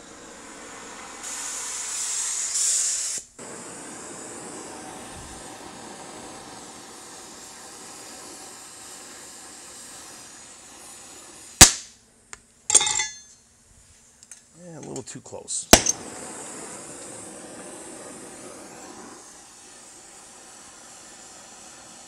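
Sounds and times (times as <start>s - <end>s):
torch flame hissing: 0.0s - 11.9s, 15.4s - 22.0s.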